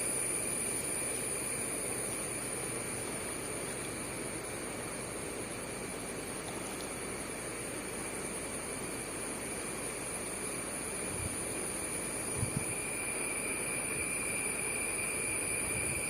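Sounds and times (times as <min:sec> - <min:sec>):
high-pitched whine: 0:00.0 - 0:05.3, 0:08.2 - 0:16.0.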